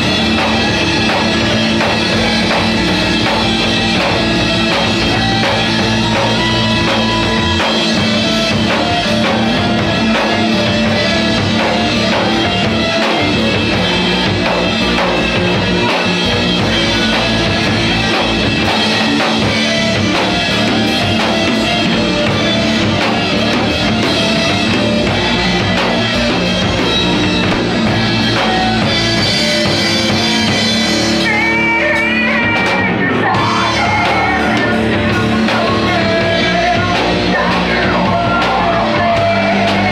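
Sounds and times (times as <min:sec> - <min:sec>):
drum kit: 0:00.0 - 0:39.9
person singing: 0:00.0 - 0:39.9
rock guitars: 0:00.0 - 0:39.9.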